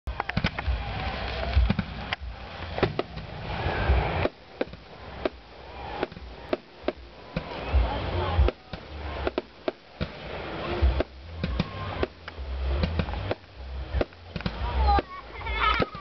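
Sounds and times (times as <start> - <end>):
fireworks cracking and popping: 0.1 - 16.0
low rumble: 0.1 - 16.0.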